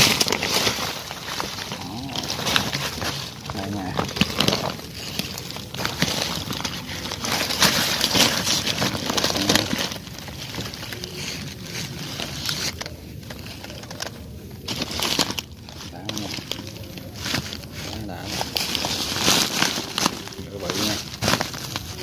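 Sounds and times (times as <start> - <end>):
dry straw and leaves rustling: 0.0 - 22.0.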